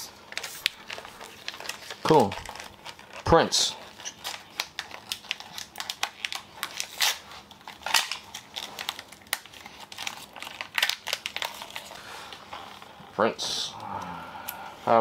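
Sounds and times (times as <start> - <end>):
plastic wrappers crinkling: 0.0 - 15.0.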